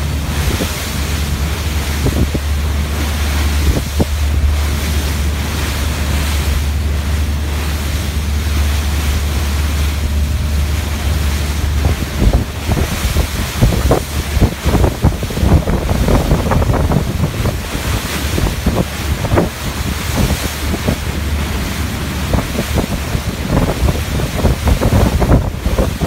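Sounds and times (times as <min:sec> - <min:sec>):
sea water and waves rushing: 0:00.0 - 0:26.0
wind buffeting microphone: 0:00.0 - 0:26.0.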